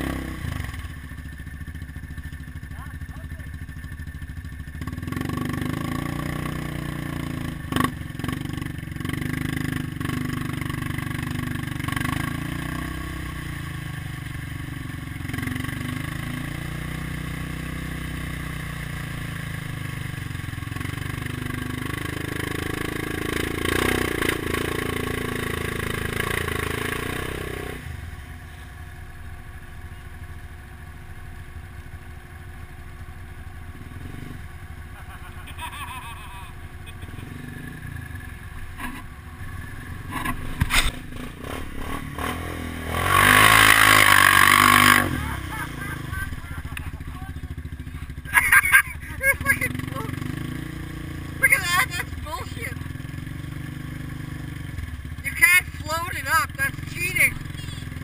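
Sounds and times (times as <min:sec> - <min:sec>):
atv engines revving: 0:00.0 - 0:58.0.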